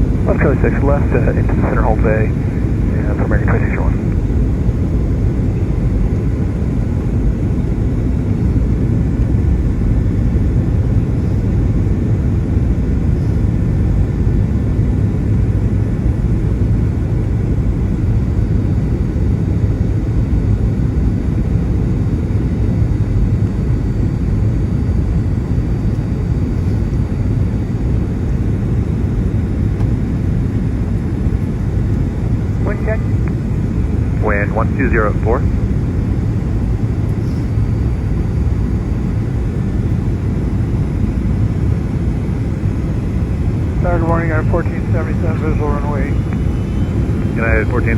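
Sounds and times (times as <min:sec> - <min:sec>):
airplane cabin engine roar: 0:00.0 - 0:47.9.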